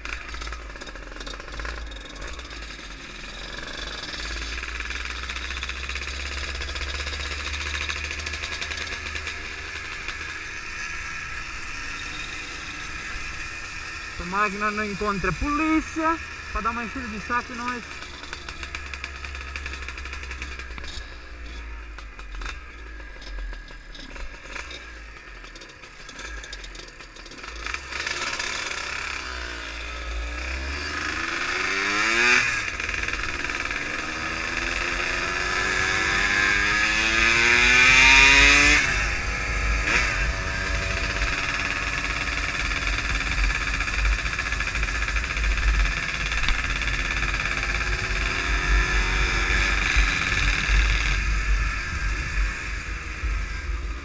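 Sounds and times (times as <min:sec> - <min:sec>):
two-stroke motorcycle revving: 0:00.0 - 0:54.0.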